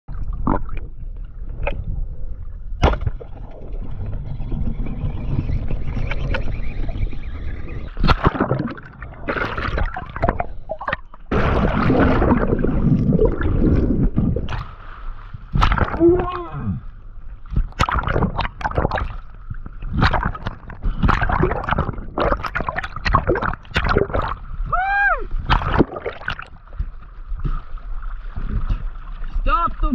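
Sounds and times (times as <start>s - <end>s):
water gurgling and sloshing: 0.1s - 29.9s.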